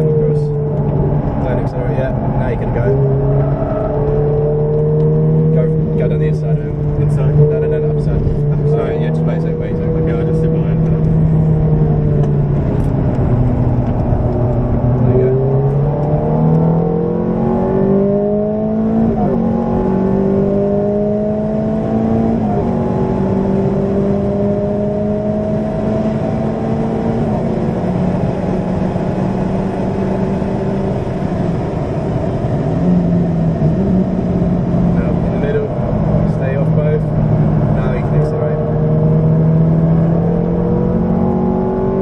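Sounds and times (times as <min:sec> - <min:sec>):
car engine accelerating hard: 0:00.0 - 0:42.0.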